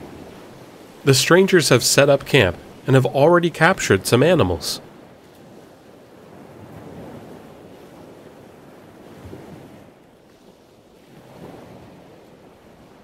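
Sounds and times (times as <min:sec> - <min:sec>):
ocean surf washing onto beach: 0:00.0 - 0:13.0.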